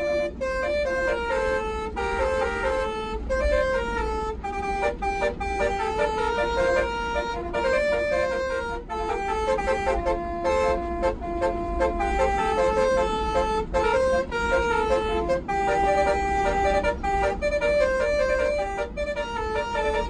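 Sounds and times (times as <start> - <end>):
bus engine running low: 0.0 - 20.0
multi-tone bus air horns: 0.0 - 20.0.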